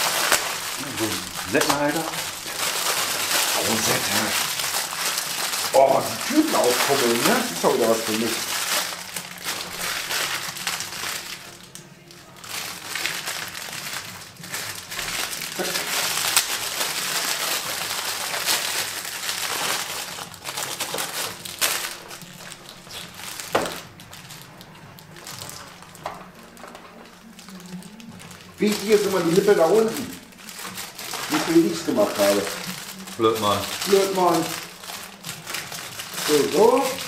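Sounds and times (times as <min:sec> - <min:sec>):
plastic bags crinkling: 0:00.0 - 0:37.0.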